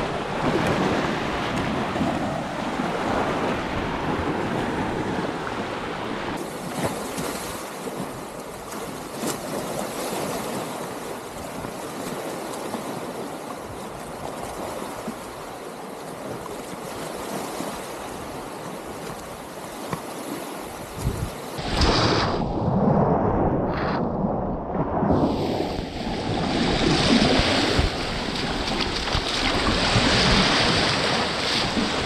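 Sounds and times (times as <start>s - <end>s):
waves lapping on a beach: 0.0s - 22.5s, 25.1s - 32.0s.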